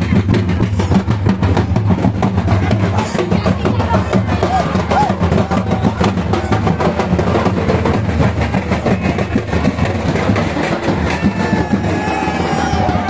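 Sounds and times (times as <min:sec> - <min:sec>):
drums beaten in fast rhythm: 0:00.0 - 0:13.0.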